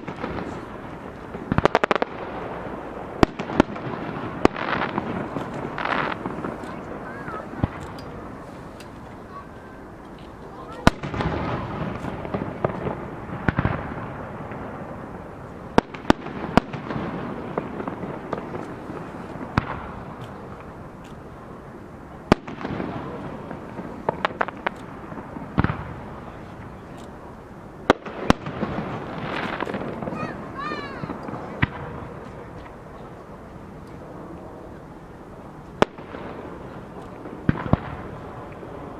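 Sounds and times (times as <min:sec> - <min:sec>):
fireworks bursting bangs: 0:00.0 - 0:38.9
fireworks crackling: 0:00.0 - 0:38.9
steady wash of noise: 0:00.0 - 0:38.9.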